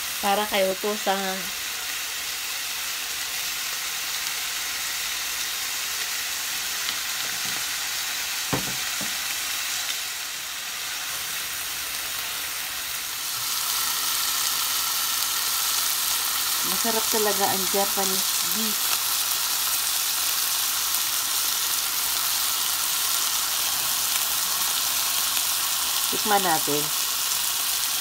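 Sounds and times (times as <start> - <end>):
beef sizzling in a frying pan: 0.0 - 28.0.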